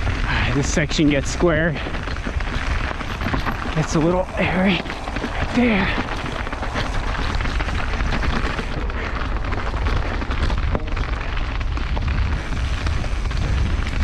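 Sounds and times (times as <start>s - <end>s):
bike rattling on rocks: 0.0s - 14.0s
steady low rumble: 0.0s - 14.0s
wind buffeting microphone: 0.0s - 14.0s.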